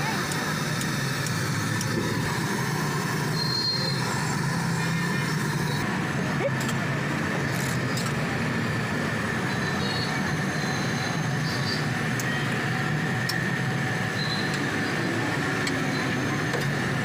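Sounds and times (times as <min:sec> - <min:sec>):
mechanical drone: 0:00.0 - 0:17.0.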